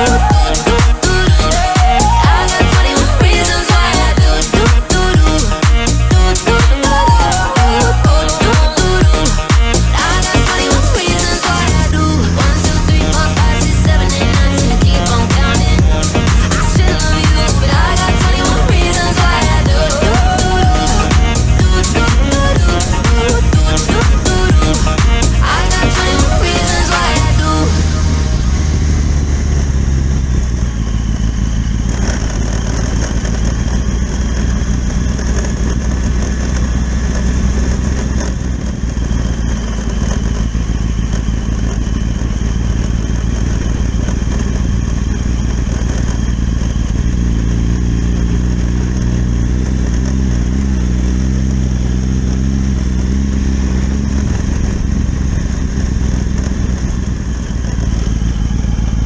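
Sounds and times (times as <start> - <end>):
motorcycle engine running: 0.0 - 59.0
wind and road noise: 9.3 - 59.0.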